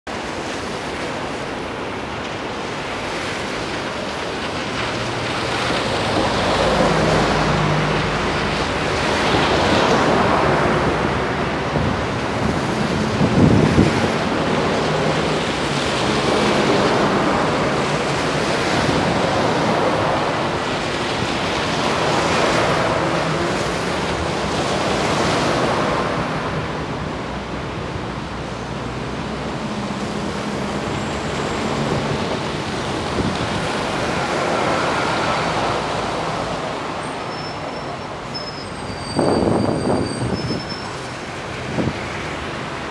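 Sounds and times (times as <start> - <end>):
tyres hissing on wet road: 0.1 - 42.9
bus engines humming: 0.8 - 42.9.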